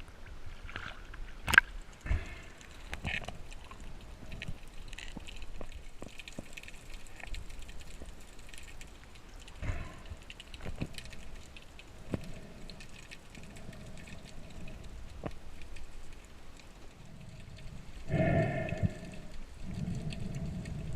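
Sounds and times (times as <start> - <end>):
underwater crackle of clicks: 0.7 - 20.9.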